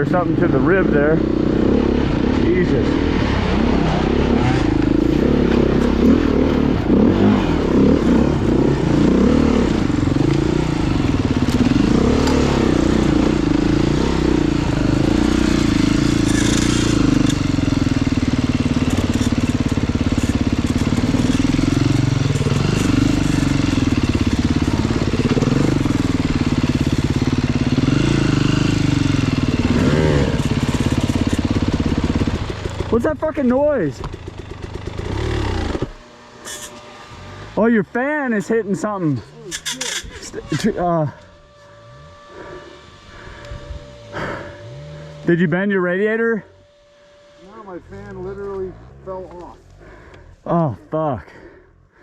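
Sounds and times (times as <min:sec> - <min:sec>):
dirt bike engine revving: 0:00.0 - 0:51.6.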